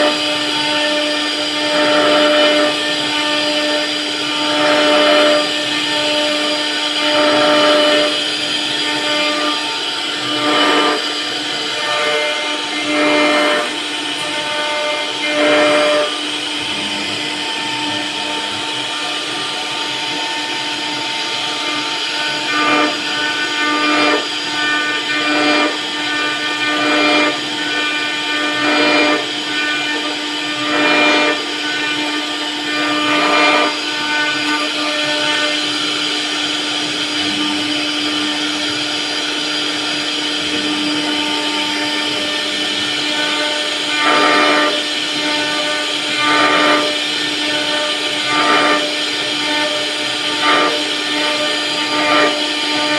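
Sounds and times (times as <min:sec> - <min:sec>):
router bit carving wood: 0:00.0 - 0:52.9
router spindle whining: 0:00.0 - 0:52.9.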